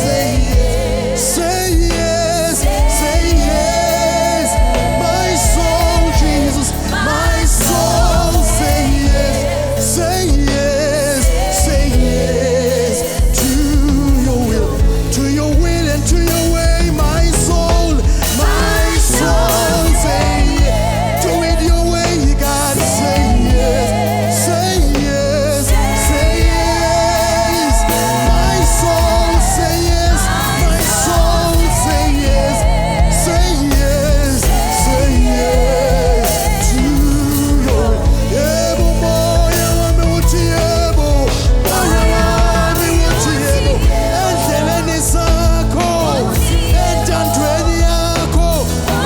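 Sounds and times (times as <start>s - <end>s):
band playing gospel music: 0.0s - 49.0s
singers holding long notes: 0.0s - 49.0s.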